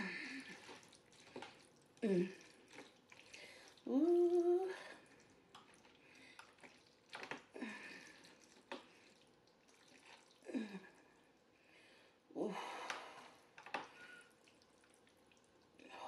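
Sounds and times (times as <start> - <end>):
wet noodle sounds: 0.0 - 11.8, 13.3 - 16.0.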